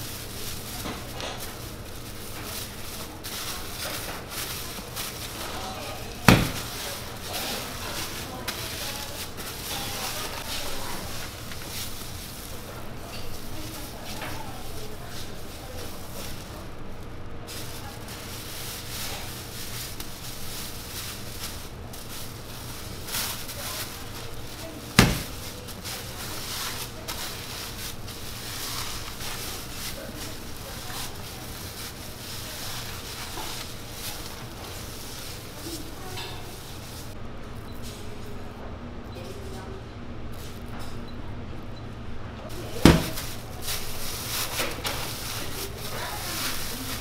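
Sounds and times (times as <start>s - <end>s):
plastic wrap crinkling: 0.0s - 37.2s, 42.5s - 47.0s
steady low hum: 0.0s - 47.0s.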